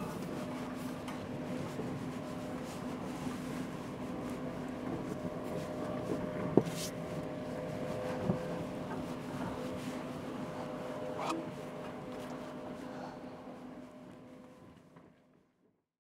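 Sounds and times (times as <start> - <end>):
vehicle cabin hum and rumble: 0.0 - 13.9.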